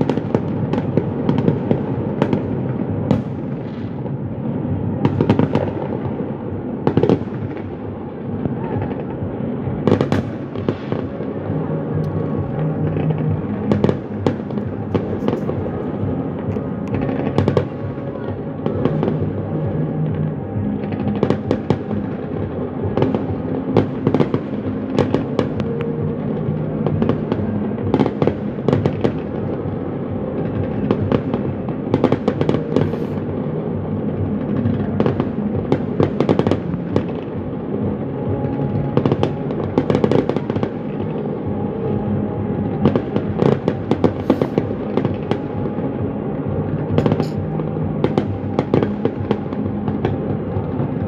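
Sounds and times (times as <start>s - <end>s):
fireworks bangs and crackles: 0.0s - 51.0s
music playing: 0.0s - 51.0s.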